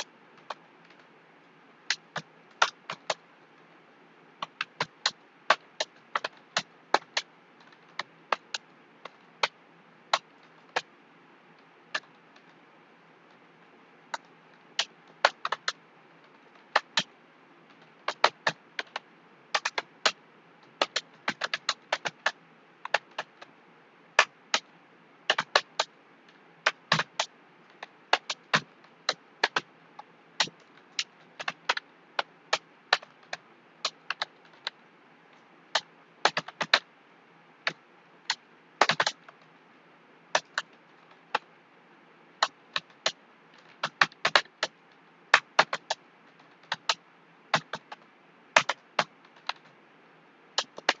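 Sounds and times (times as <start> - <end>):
faint steady hiss: 0.0 - 51.0.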